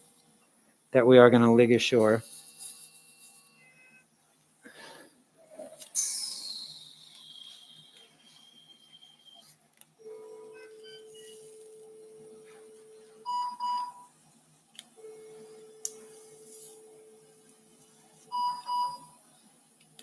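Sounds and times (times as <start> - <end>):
cautery unit activation tone: 0.0 - 20.0.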